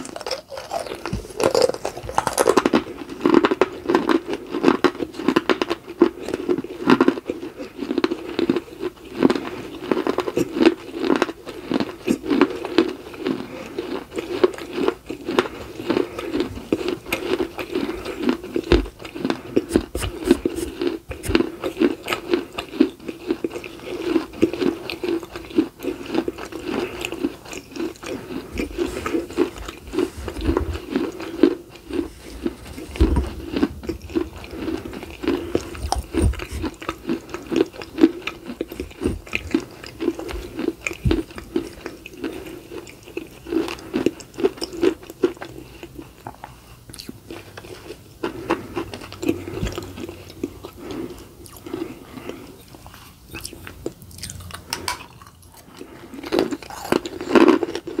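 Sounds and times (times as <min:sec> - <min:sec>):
chewing and crunching dry clay: 0:00.0 - 0:58.0.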